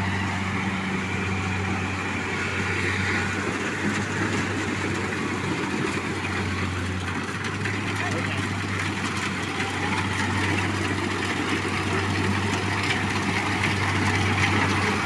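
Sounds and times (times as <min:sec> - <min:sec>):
harvester engine hum: 0:00.0 - 0:15.0
machine rattle and whir: 0:00.0 - 0:15.0.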